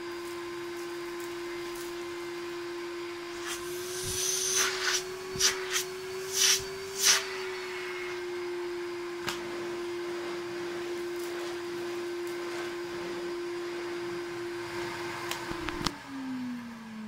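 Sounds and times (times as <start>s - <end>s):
vacuum cleaner running: 0.0s - 17.0s
vacuum motor winding down: 0.5s - 17.0s.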